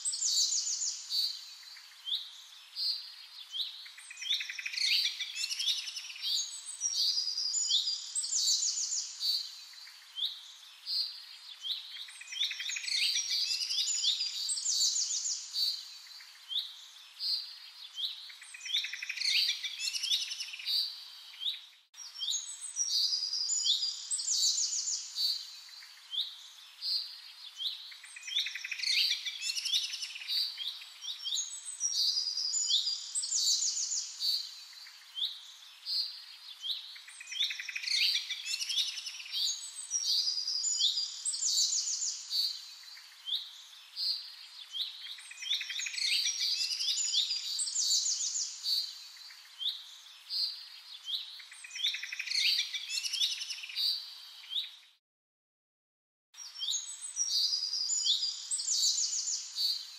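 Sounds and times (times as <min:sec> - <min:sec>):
birds chirping and trilling: 0:00.0 - 0:55.0, 0:56.4 - 0:59.9.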